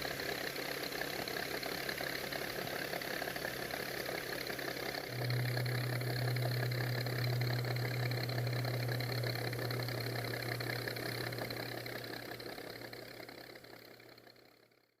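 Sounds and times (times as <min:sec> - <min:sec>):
small electric motor humming: 0:00.0 - 0:14.5.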